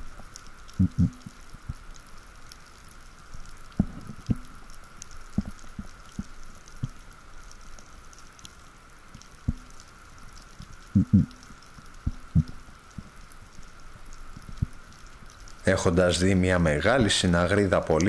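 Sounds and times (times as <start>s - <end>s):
faint high crackles: 0.0s - 18.0s
faint steady hiss: 0.0s - 18.0s.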